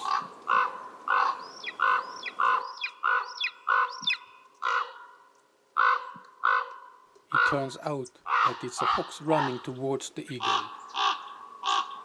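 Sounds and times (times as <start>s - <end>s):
crow giving harsh alarm caws: 0.0s - 9.8s, 10.4s - 12.0s.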